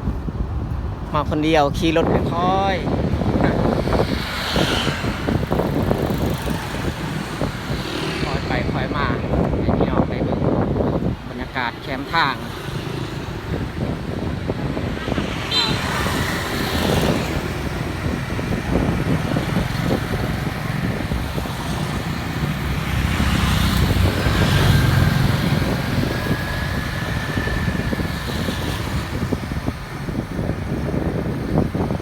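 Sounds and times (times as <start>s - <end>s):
engine and tyre rumble: 0.0s - 32.0s.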